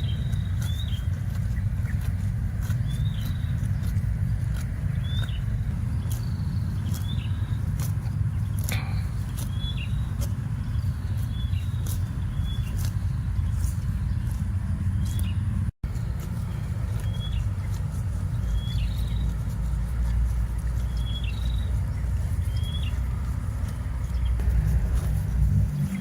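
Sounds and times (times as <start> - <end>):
bird chirping: 0.0 - 15.5, 16.3 - 26.0
steady low rumble: 0.0 - 26.0.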